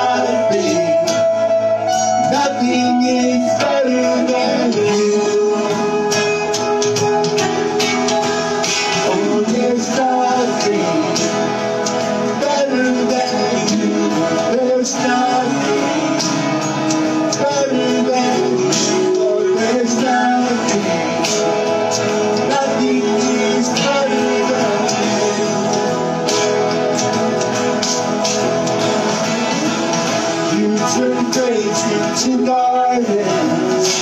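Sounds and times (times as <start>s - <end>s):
guitar: 0.0s - 34.0s
people singing: 0.0s - 34.0s
percussion: 0.0s - 34.0s.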